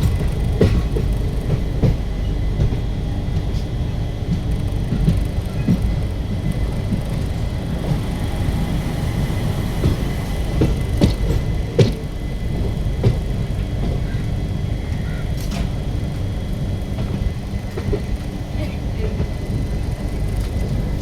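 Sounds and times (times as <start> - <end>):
train wheels rumbling on track: 0.0 - 21.0
wheels knocking on rail joints: 0.0 - 21.0.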